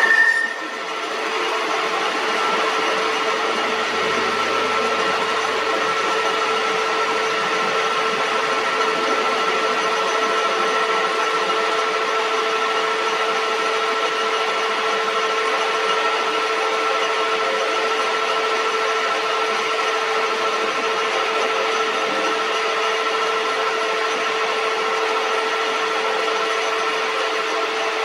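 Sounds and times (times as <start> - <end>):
metal lathe whining: 0.0 - 28.0.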